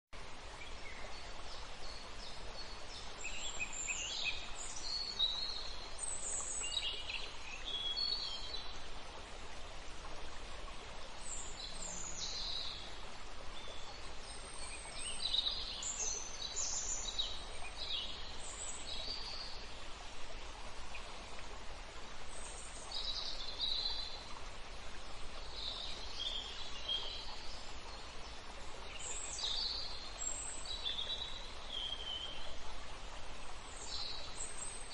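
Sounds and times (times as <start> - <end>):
outdoor ambience hiss: 0.2 - 34.9
songbirds chirping: 0.2 - 34.9.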